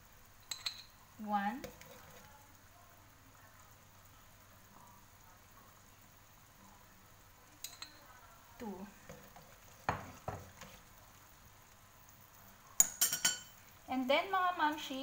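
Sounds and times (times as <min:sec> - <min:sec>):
stew simmering sizzle: 0:00.0 - 0:15.0.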